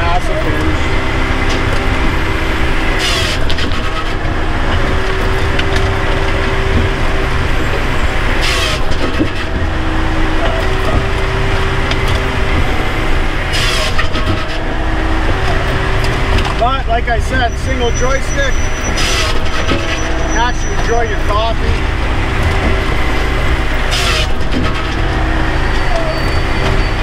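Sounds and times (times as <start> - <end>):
firewood processor engine drone: 0.0 - 27.0.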